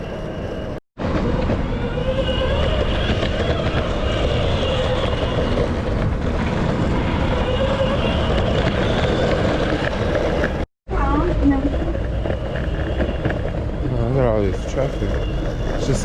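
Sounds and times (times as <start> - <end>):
skateboard wheels rolling on pavement: 0.0 - 16.0.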